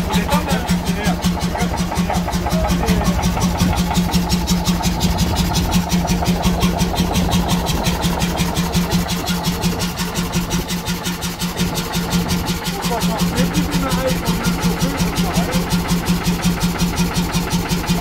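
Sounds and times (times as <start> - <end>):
stationary engine running: 0.0 - 18.0.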